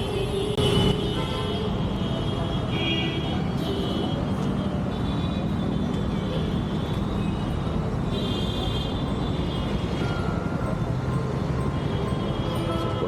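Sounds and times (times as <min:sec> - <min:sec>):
rumble of passing vehicles: 0:00.0 - 0:13.0.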